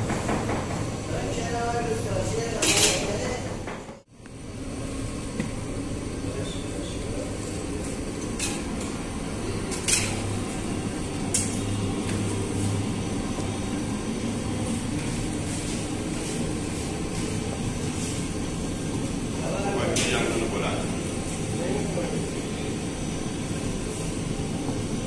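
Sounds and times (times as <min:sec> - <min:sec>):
oven machinery humming: 0:00.0 - 0:25.0.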